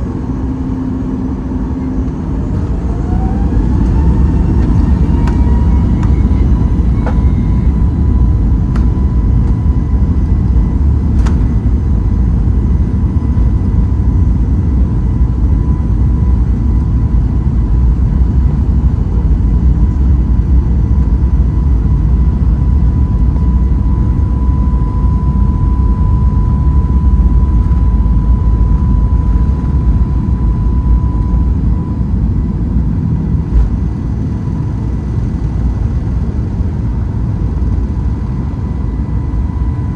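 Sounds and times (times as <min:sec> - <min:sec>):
jet engine rumble: 0:00.0 - 0:39.9
jet engine whine: 0:00.0 - 0:39.9.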